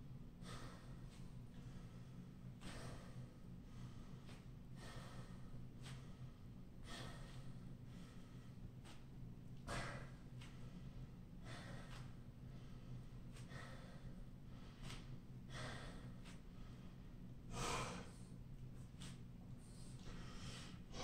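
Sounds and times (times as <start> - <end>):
steady low hum: 0.0 - 21.0
man breathing hard: 0.4 - 21.0.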